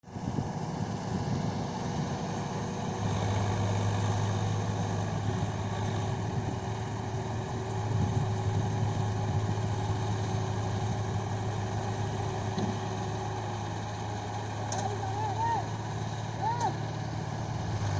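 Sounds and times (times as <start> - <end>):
diesel tractor engine humming: 0.0 - 17.9.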